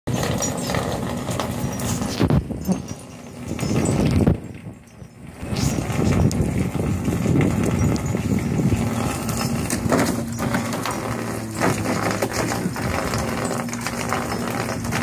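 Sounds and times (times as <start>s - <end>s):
low mechanical hum: 0.1s - 15.0s.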